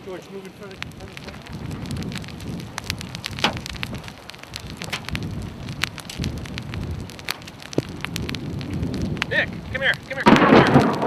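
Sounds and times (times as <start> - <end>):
raindrops ticking on surfaces: 0.0 - 11.0
wind rumbling on microphone: 0.0 - 11.0.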